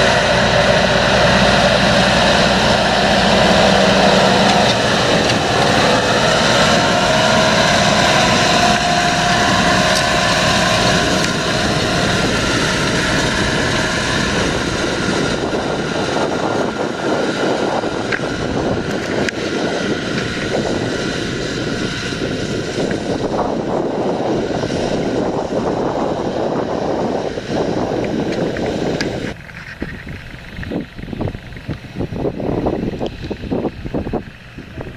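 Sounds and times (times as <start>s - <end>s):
drill discs working soil: 0.0s - 34.9s
steady whine: 0.0s - 34.9s
tractor diesel engine: 0.0s - 34.9s.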